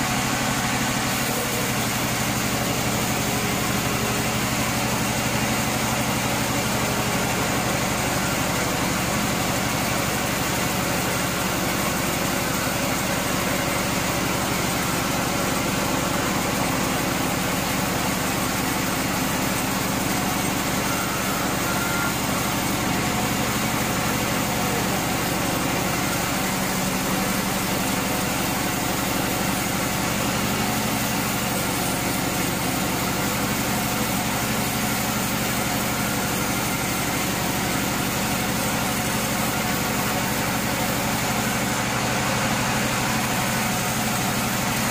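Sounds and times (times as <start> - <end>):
band sawmill cutting log: 0.0 - 44.9.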